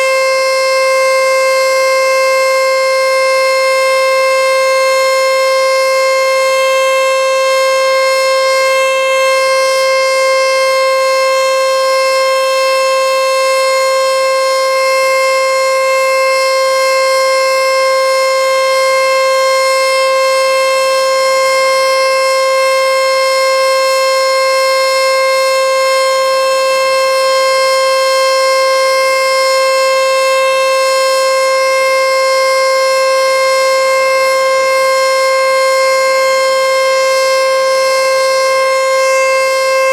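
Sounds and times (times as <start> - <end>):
emergency warning siren: 0.0 - 39.9.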